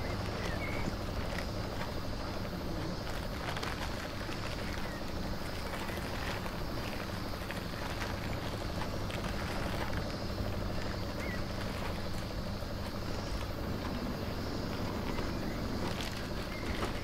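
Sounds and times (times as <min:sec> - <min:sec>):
low background rumble and hum: 0:00.0 - 0:17.0
paper wrappers crinkling: 0:00.0 - 0:17.0.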